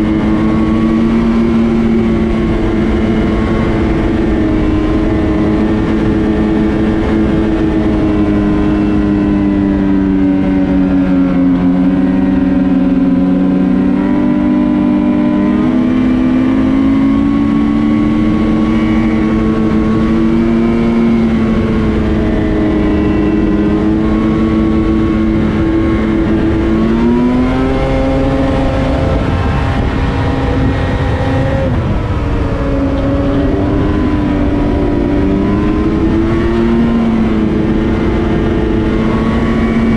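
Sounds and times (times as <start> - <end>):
rushing wind and track noise: 0.0 - 39.9
snowmobile engine revving: 0.0 - 39.9.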